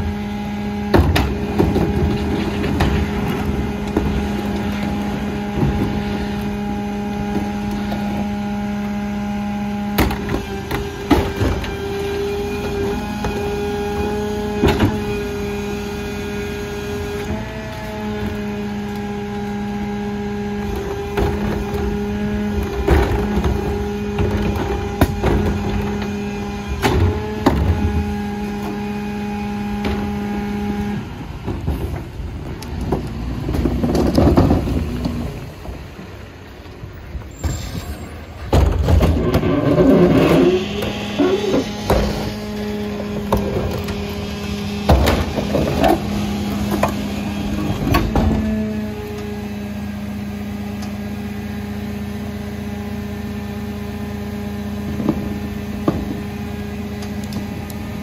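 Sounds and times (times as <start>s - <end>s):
garbage truck engine humming: 0.0s - 58.0s.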